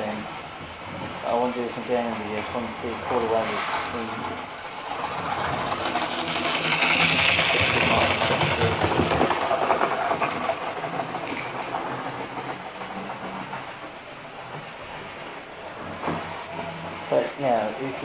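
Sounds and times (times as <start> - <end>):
model train running on rails: 0.0 - 18.0.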